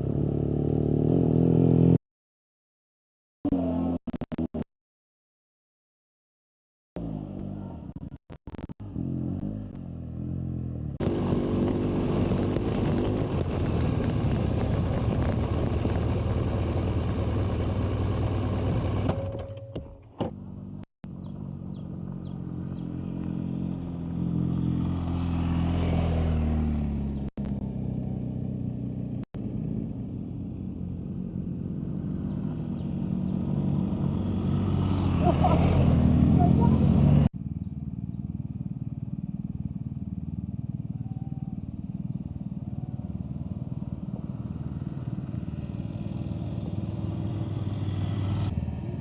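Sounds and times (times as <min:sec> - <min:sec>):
motorcycle engine revving: 0:00.0 - 0:02.0, 0:07.0 - 0:19.5, 0:20.3 - 0:49.0.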